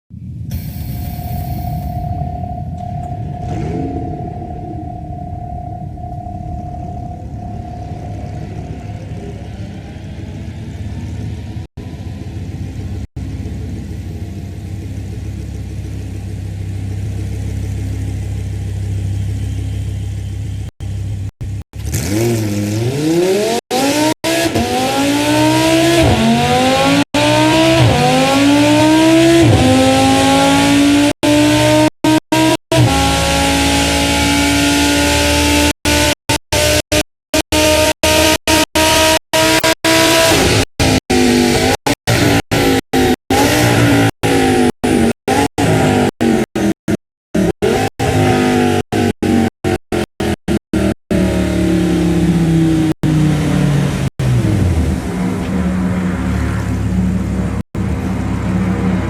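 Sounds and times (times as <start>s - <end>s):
car engine idling and revving: 0.1s - 59.0s.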